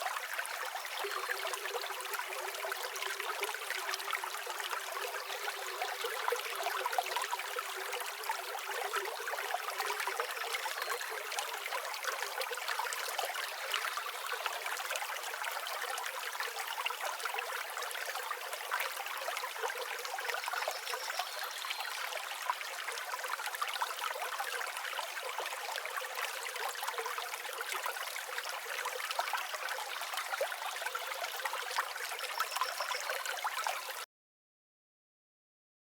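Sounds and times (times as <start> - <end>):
stream water trickling: 0.0 - 34.1.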